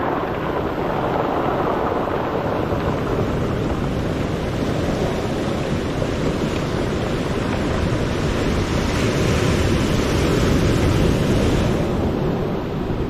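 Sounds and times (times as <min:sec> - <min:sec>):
surf washing on beach: 0:00.0 - 0:13.0.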